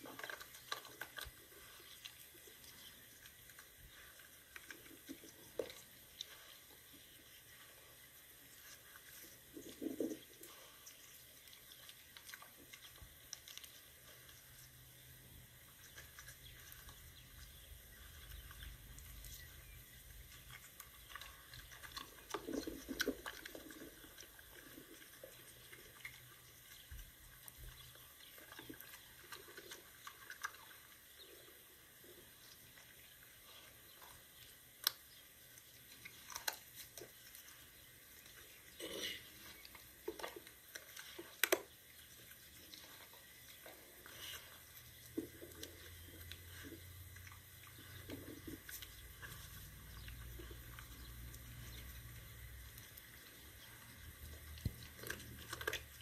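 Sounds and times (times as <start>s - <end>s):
dog chewing and crunching: 0.0s - 56.0s.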